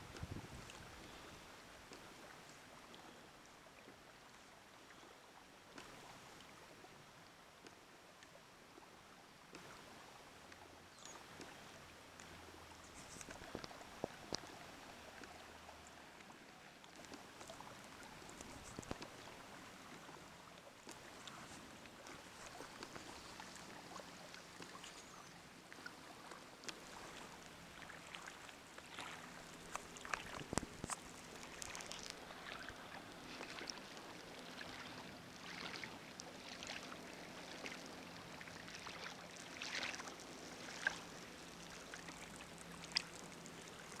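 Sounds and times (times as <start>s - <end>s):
water lapping along hull: 0.0s - 44.0s
small clicks and drips: 0.1s - 44.0s.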